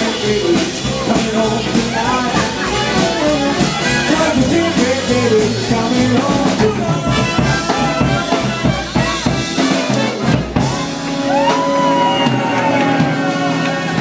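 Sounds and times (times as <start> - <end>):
live band playing swing: 0.0 - 14.0.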